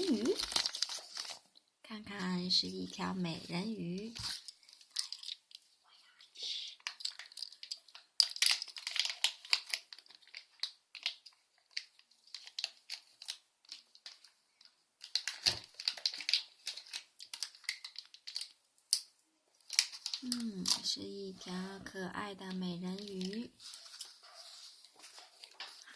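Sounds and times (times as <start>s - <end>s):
wrapping crinkling: 0.0s - 5.7s, 6.6s - 21.8s, 22.5s - 25.9s.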